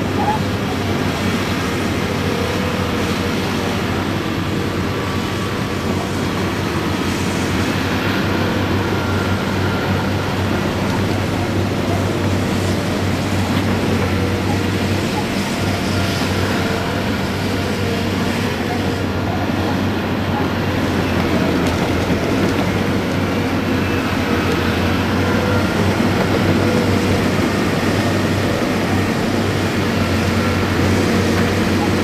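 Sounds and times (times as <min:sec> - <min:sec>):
construction machines running: 0:00.0 - 0:32.0.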